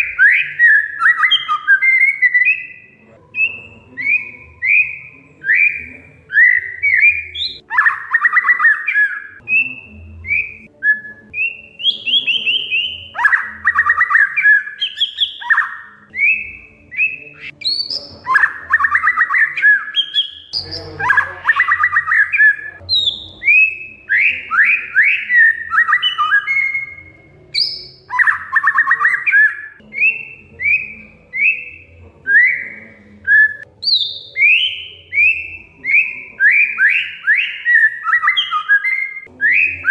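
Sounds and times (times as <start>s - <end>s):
bird chattering trills: 0.0s - 39.9s
bird singing whistled notes: 0.0s - 39.9s.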